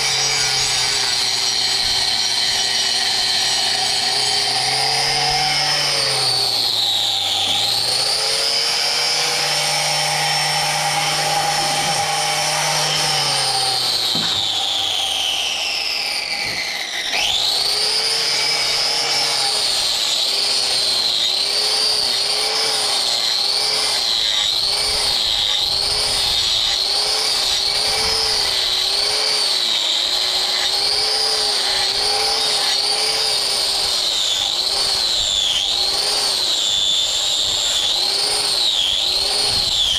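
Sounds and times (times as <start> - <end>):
electric grinder whining: 0.0 - 39.9.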